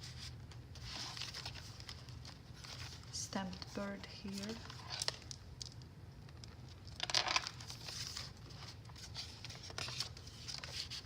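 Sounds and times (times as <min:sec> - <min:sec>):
paper rustling and crinkling: 0:00.0 - 0:05.4, 0:06.5 - 0:11.0.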